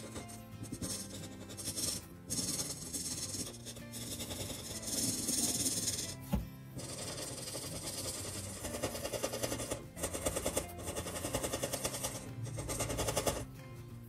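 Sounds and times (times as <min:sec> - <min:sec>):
marker rubbing on paper: 0:00.0 - 0:13.6.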